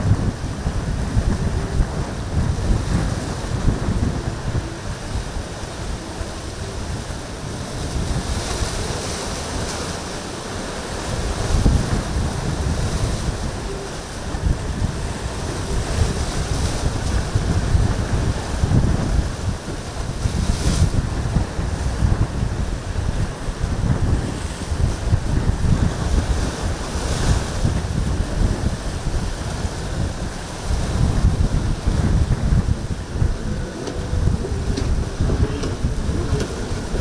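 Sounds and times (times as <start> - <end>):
choppy surf: 0.0 - 37.0
strong wind buffeting microphone: 0.0 - 37.0.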